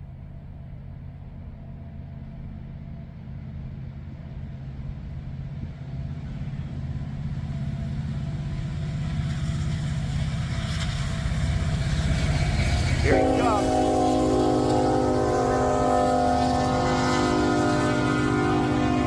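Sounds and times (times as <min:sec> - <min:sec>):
diesel locomotive engine rumble: 0:00.0 - 0:19.0.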